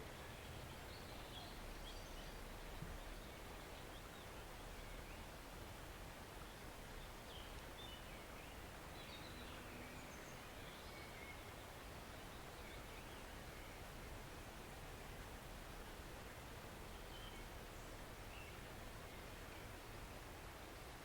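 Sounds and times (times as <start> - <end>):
faint birdsong: 0.0 - 20.9
stream water flowing: 0.0 - 21.0.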